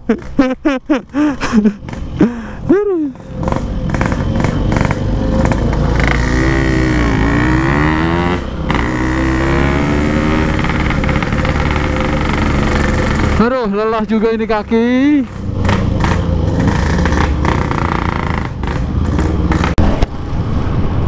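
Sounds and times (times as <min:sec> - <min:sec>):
motorcycle engine running: 0:00.1 - 0:20.0.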